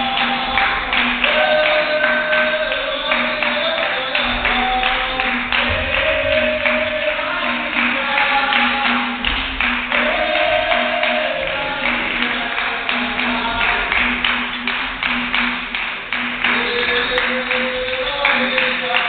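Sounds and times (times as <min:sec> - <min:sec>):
berimbau twanging rhythm: 0:00.0 - 0:19.0
group clapping in time: 0:00.0 - 0:19.0.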